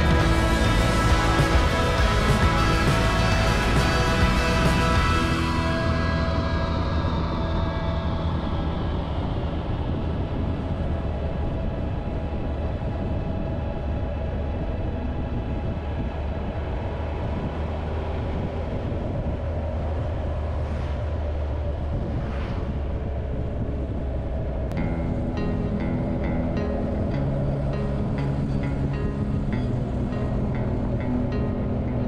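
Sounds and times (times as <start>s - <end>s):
motorcycle engine droning: 0.0s - 32.0s
passing vehicle noise: 0.0s - 32.0s
wind rushing over microphone: 0.0s - 32.0s.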